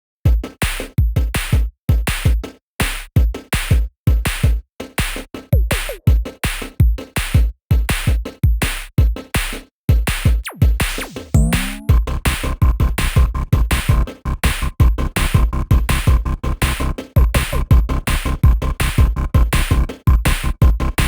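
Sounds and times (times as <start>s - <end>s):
electronic music with drum-machine beat: 0.3s - 21.0s.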